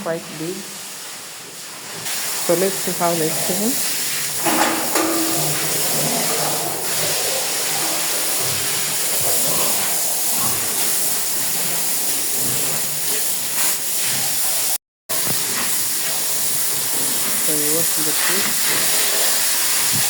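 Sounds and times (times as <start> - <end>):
water spraying hiss: 0.0 - 20.0.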